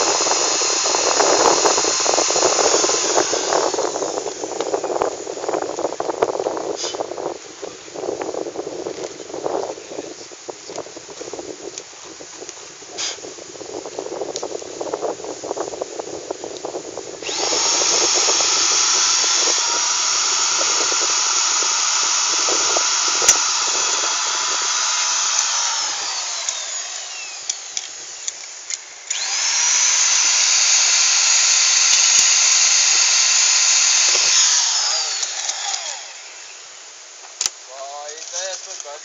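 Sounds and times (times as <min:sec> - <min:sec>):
electric power tool whining: 0:00.0 - 0:07.2, 0:11.7 - 0:36.8.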